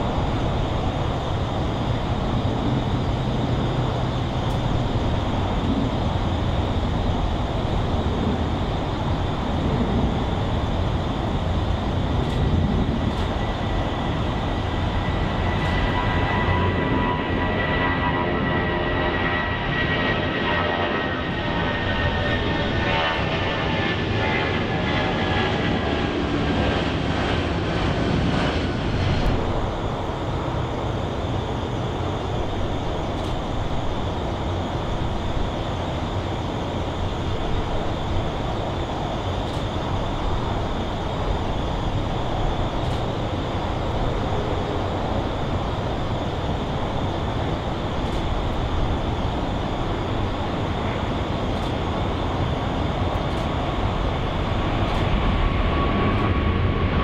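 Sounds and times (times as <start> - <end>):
jet engine whine: 0.0 - 57.0
jet engines roaring: 0.0 - 57.0.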